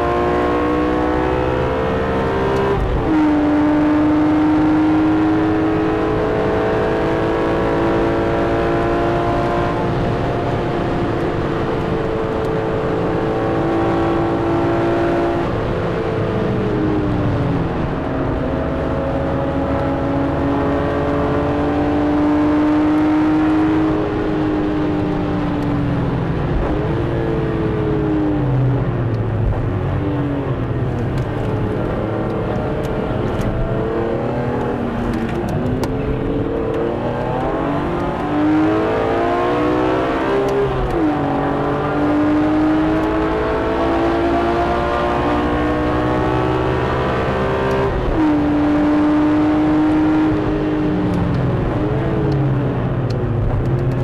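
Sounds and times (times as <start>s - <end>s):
car engine revving: 0.0s - 54.0s
road and tyre noise: 0.0s - 54.0s.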